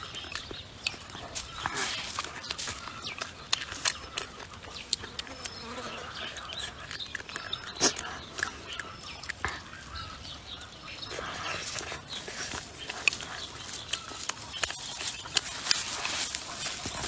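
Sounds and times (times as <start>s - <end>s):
chickens clucking: 0.0s - 17.0s
crunching and chewing food: 0.0s - 17.0s.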